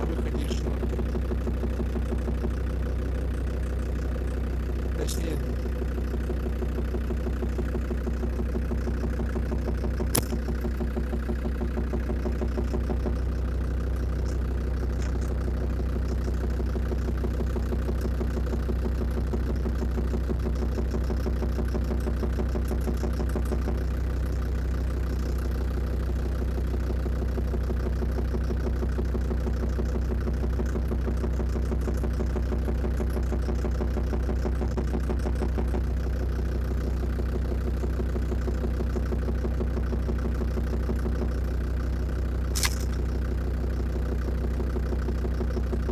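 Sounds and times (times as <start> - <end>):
diesel engine idling: 0.0 - 45.9
repeated engine knock: 0.0 - 45.9.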